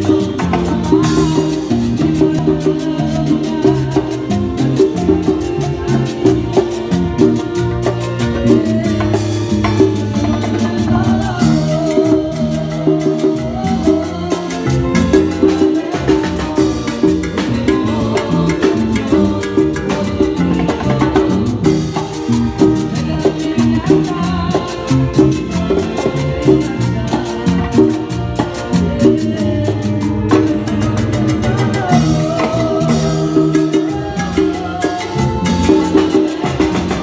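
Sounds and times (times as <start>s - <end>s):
drum kit and hand drums: 0.0s - 37.0s
electric keyboard melody: 0.0s - 37.0s.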